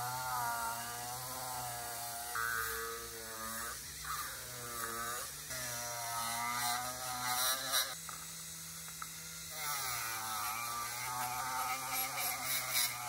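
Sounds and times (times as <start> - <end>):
rotary tool motor whine: 0.0 - 13.0.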